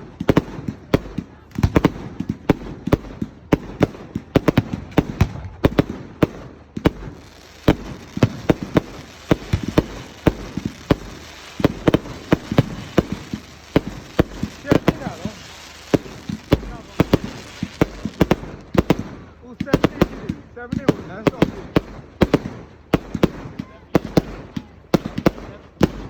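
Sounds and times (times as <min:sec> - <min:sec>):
fireworks bangs and cracks: 0:00.0 - 0:26.0.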